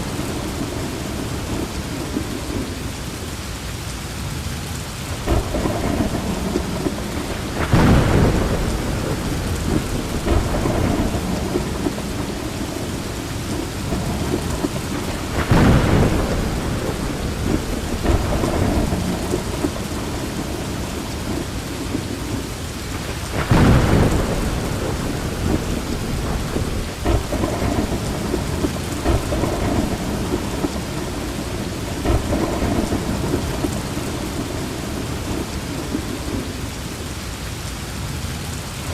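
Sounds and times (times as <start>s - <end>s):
thunder rumbling: 0.0s - 3.3s, 5.0s - 37.0s
heavy rain pouring: 0.0s - 38.9s.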